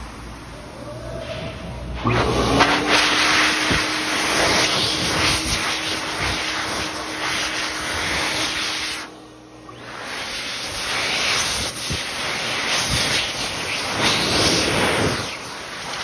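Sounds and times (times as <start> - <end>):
hand dryer blowing air: 2.0 - 16.0.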